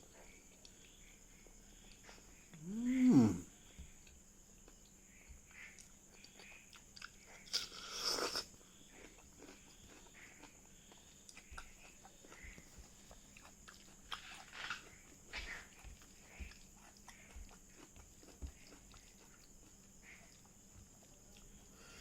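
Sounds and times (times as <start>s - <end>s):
person chewing: 4.0s - 22.0s.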